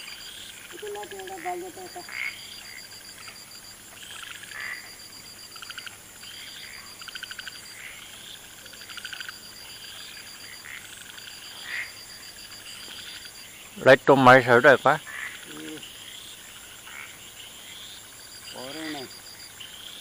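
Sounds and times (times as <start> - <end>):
frogs rattling and chirping: 0.0 - 20.0.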